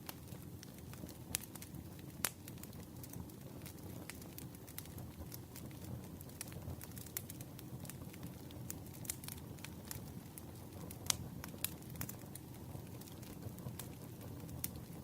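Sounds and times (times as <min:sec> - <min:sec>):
fire snapping and popping: 0:00.0 - 0:15.0
low rush of flames: 0:00.0 - 0:15.0.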